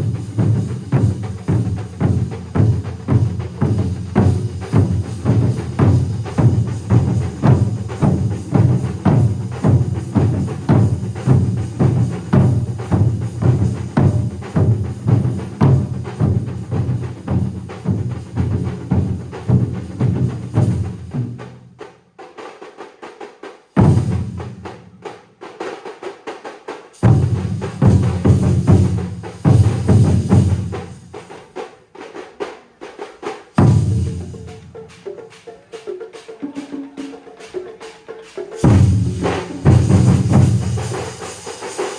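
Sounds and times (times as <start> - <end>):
drum ensemble playing: 0.0 - 41.9.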